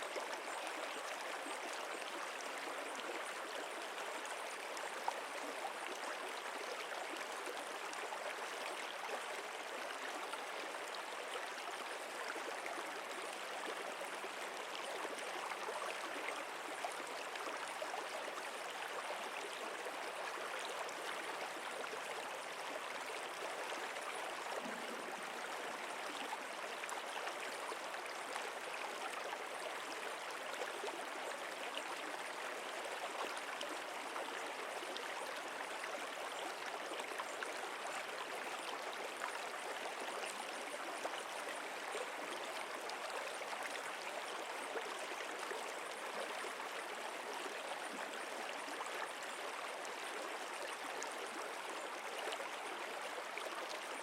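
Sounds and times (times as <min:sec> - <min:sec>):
stream water gurgling: 0:00.0 - 0:54.0.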